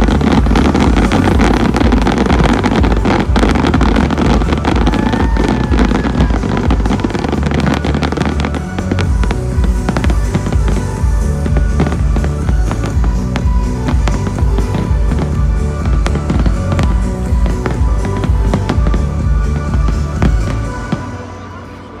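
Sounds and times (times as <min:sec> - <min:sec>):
fireworks banging and crackling: 0:00.0 - 0:21.4
electronic dance music: 0:00.0 - 0:22.0.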